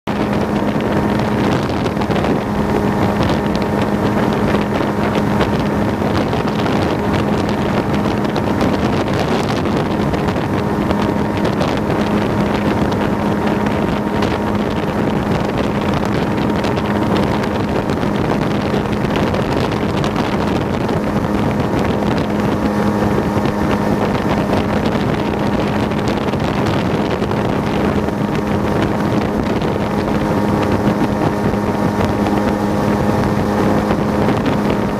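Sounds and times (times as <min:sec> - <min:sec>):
motorboat engine running: 0:00.0 - 0:34.9
wind noise on microphone: 0:00.0 - 0:34.9.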